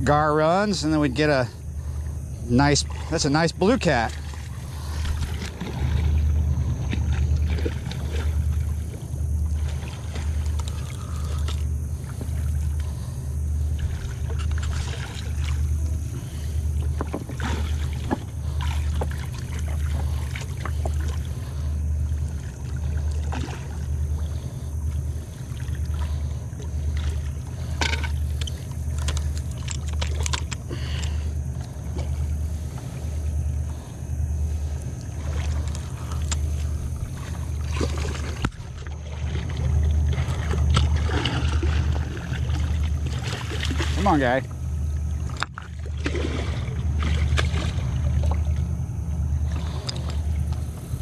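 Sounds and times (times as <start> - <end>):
distant diesel boat engine throbbing: 0.0 - 51.0
fish splashing in water: 4.0 - 51.0.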